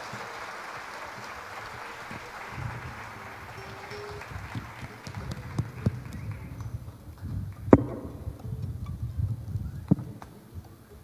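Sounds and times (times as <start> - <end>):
crowd applauding and cheering: 0.0 - 9.8.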